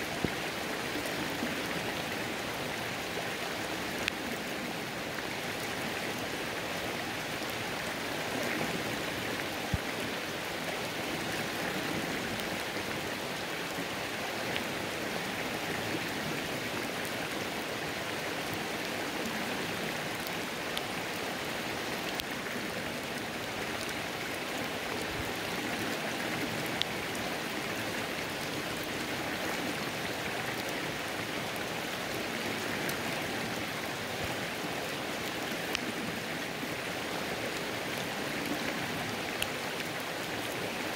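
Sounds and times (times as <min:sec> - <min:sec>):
flowing water: 0:00.0 - 0:40.9
rain falling: 0:00.0 - 0:40.9.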